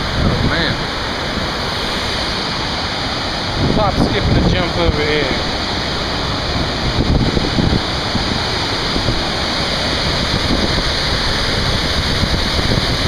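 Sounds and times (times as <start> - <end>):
waterfall crashing on rocks: 0.0 - 13.0.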